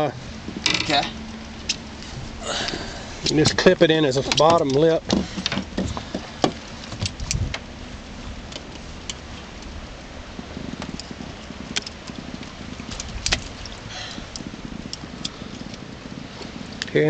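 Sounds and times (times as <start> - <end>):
fish drumming: 0.0 - 16.9.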